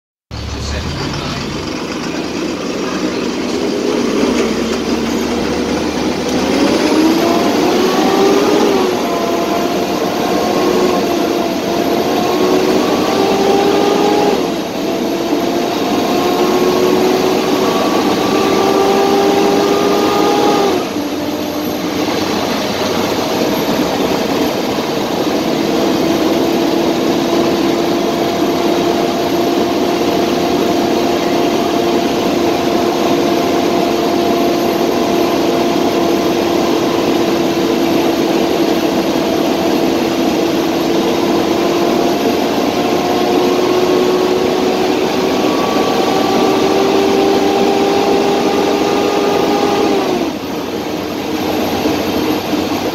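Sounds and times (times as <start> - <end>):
diesel bus engine accelerating: 0.3 - 52.9.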